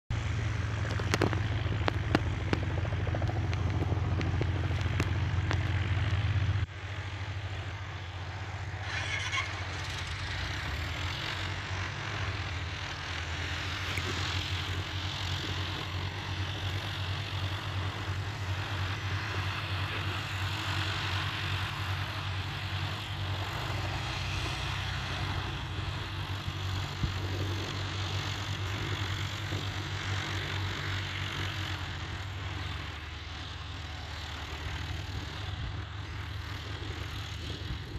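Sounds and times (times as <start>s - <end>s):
distant propeller aircraft engine: 0.1s - 37.9s.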